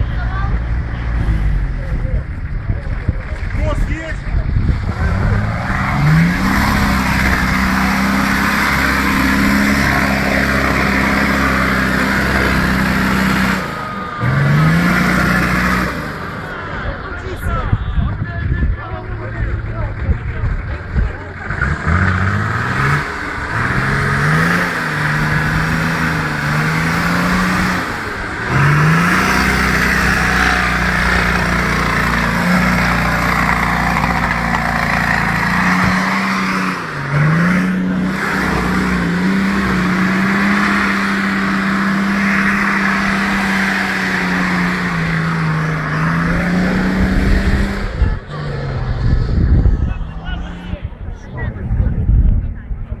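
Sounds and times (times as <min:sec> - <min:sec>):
car engine revving: 0:00.0 - 0:52.6.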